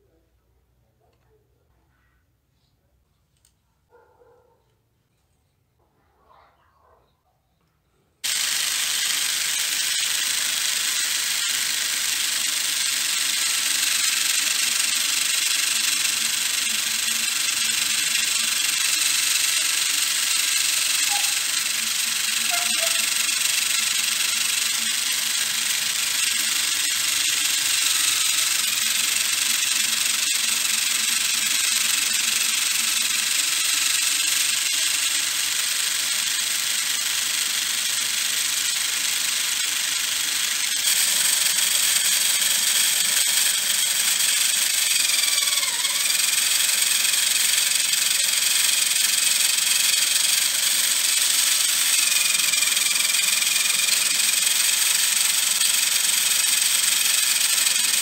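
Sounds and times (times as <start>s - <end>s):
plastic gears rattling: 8.2s - 58.0s
small electric motor whirring: 8.2s - 58.0s.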